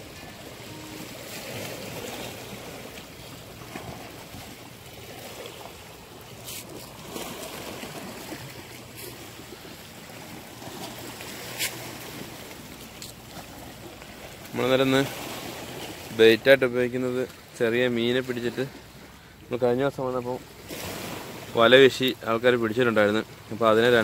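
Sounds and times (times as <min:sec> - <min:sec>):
waves washing against seawall: 0:00.0 - 0:19.2, 0:19.8 - 0:24.0.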